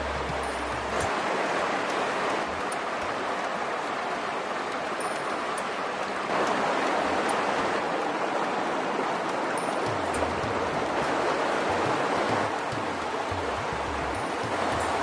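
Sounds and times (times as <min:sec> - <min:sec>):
water running over stones: 0:00.0 - 0:15.0.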